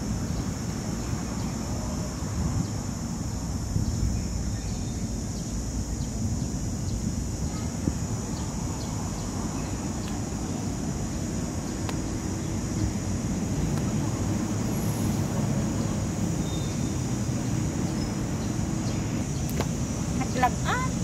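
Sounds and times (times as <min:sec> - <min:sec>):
high-pitched hiss: 0:00.0 - 0:21.0.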